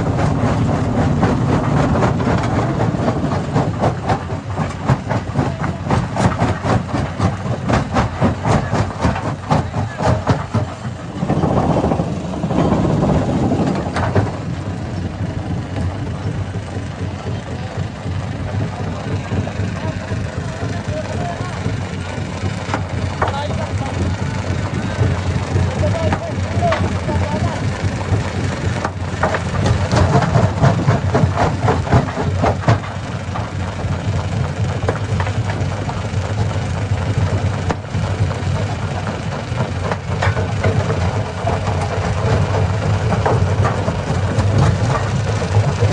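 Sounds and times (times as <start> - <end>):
stone crusher engine hum: 0.0 - 45.9.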